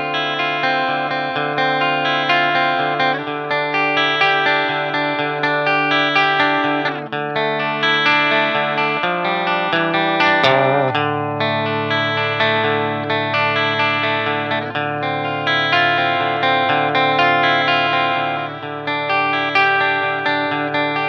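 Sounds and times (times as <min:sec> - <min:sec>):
guitar strummed chords: 0:00.0 - 0:21.0.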